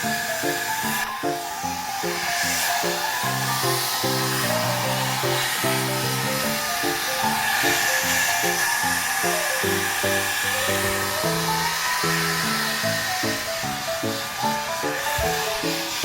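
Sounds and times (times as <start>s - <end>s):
background music melody: 0.0s - 16.0s
hair dryer running: 0.0s - 16.0s.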